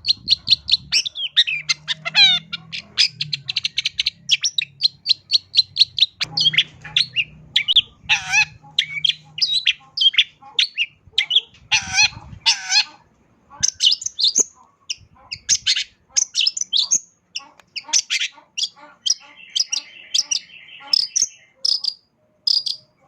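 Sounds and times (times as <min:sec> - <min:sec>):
bird singing varied chirps: 0:00.0 - 0:12.8, 0:13.6 - 0:23.0
harsh raspy bird notes: 0:00.0 - 0:13.0, 0:13.6 - 0:23.0.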